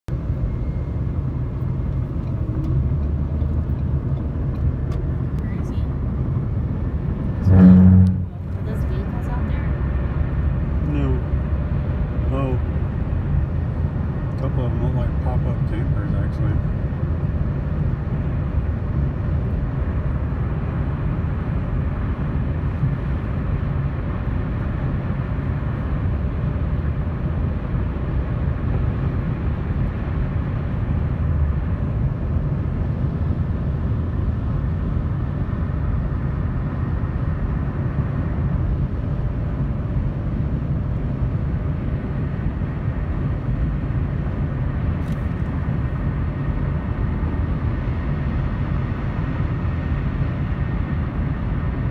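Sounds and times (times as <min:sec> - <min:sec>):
road traffic rumble: 0:00.1 - 0:51.9.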